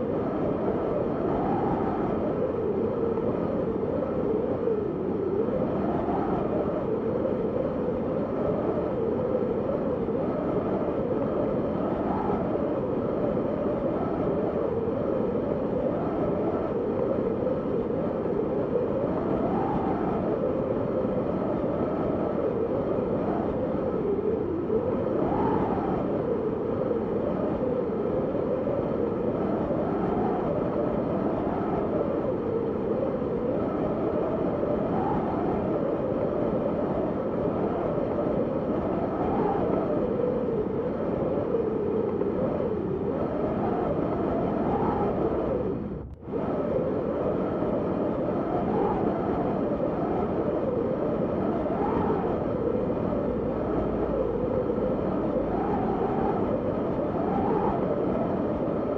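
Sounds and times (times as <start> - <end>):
wind rushing and howling: 0.0 - 58.9.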